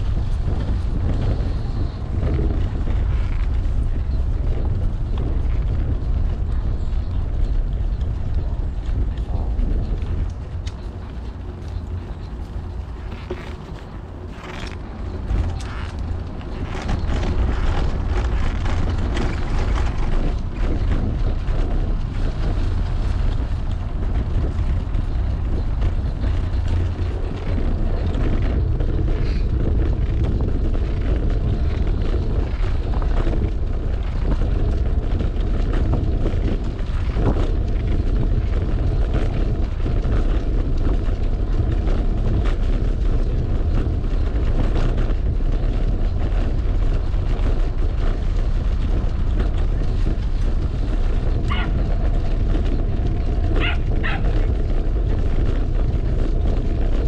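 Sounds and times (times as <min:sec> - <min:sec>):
bicycle tyres on pavers: 0:00.0 - 0:57.0
wind buffeting microphone: 0:00.0 - 0:57.0.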